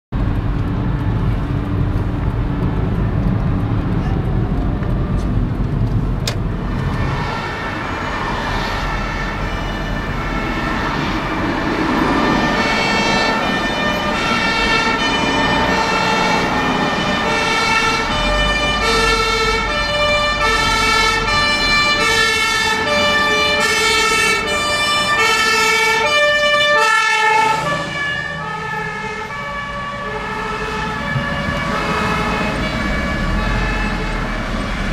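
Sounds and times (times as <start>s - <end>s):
traffic rumble: 0.1s - 34.9s
two-tone siren: 7.0s - 34.9s.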